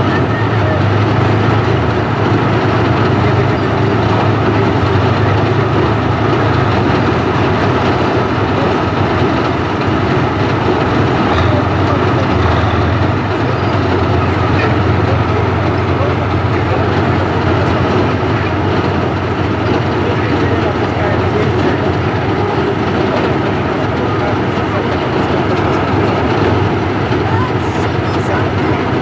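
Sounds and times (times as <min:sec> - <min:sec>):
diesel engine running hard: 0:00.0 - 0:29.0
steel tracks clattering: 0:00.0 - 0:29.0.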